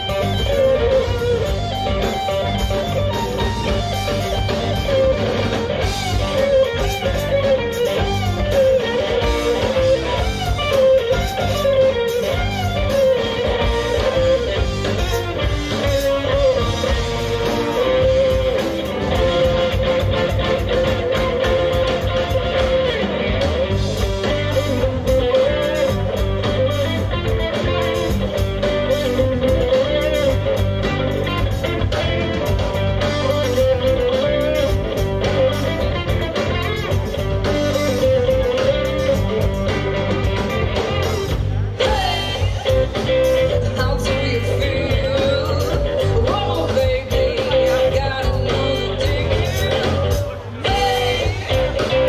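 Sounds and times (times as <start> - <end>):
live band playing: 0.0 - 52.0.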